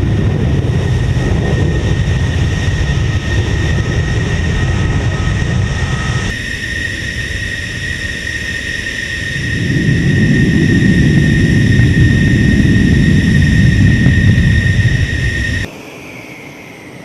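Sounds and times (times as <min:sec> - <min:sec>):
jet engine whine and roar: 0:00.0 - 0:17.0.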